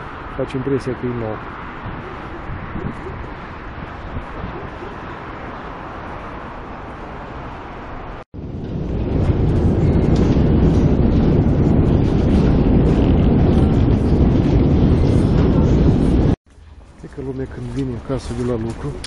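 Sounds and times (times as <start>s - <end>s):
wind noise on microphone: 0.0s - 19.0s
escalator low rumble: 1.7s - 19.0s.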